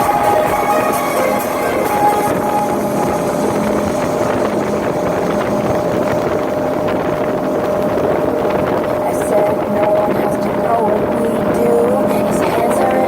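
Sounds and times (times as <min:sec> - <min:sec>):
motorboat engine droning: 0:00.0 - 0:13.0
wind and water rushing: 0:00.0 - 0:13.0.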